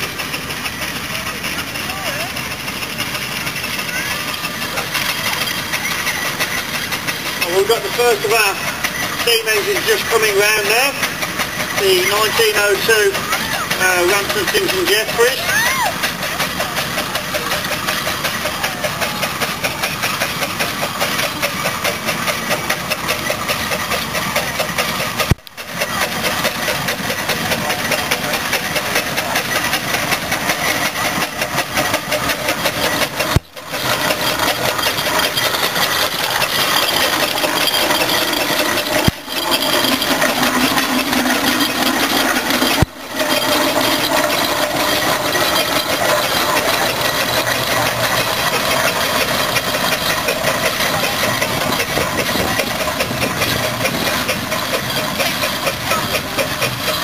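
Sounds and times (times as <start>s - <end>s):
gearing clanking and rattling: 0.0s - 57.0s
steam engine beat: 0.0s - 57.0s.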